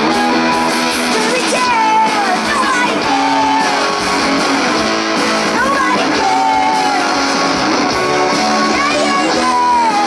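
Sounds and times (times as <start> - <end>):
woman singing: 0.0 - 4.6, 5.4 - 10.0
electric guitar: 0.0 - 10.0
live rock band playing: 0.0 - 10.0.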